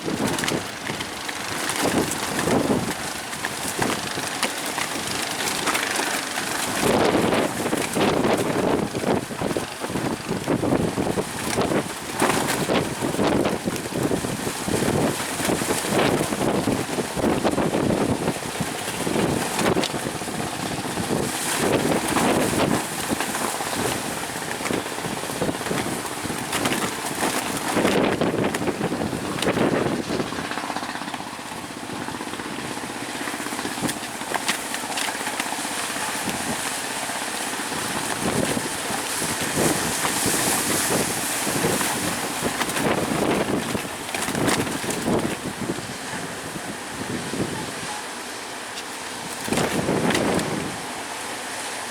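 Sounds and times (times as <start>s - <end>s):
strong wind gusting on microphone: 0.0s - 34.2s, 35.9s - 51.9s
rough sea waves: 0.0s - 51.9s.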